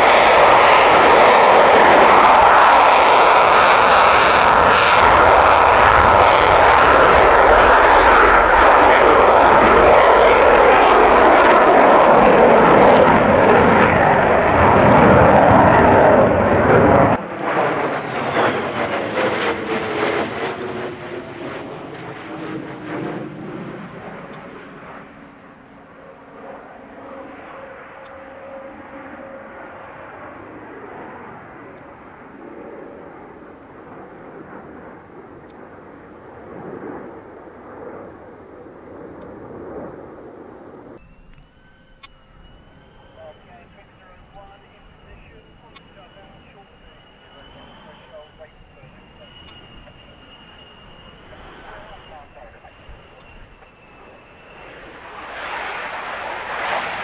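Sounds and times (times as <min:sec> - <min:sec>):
falling jet whine: 0:00.0 - 0:57.0
jet engine roaring: 0:00.0 - 0:57.0.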